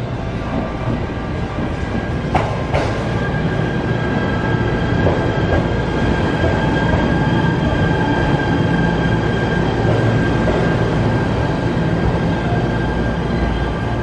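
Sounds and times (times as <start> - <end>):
electric train rumbling: 0.0 - 14.0
high train whine: 0.0 - 14.0.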